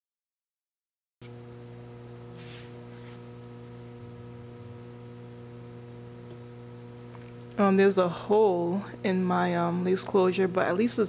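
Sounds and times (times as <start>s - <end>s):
electrical mains hum: 1.2s - 11.0s.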